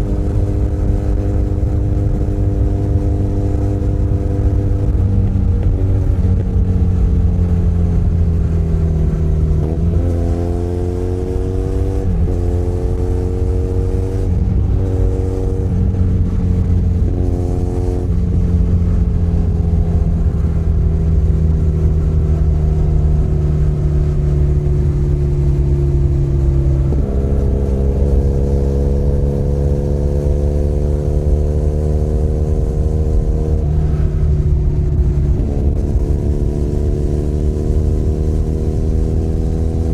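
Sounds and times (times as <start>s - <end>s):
low rumble: 0.0s - 10.4s, 12.0s - 30.4s, 32.1s - 39.9s
motorcycle engine running: 0.0s - 39.9s.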